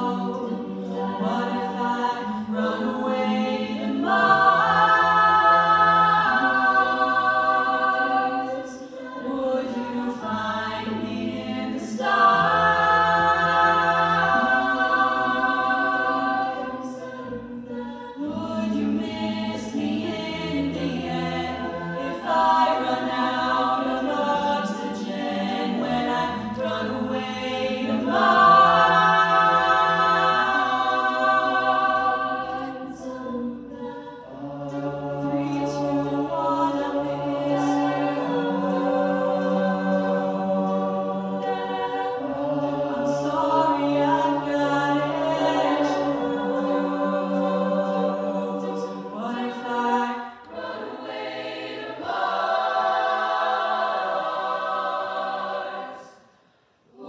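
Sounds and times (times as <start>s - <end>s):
a cappella group singing: 0.0s - 57.0s.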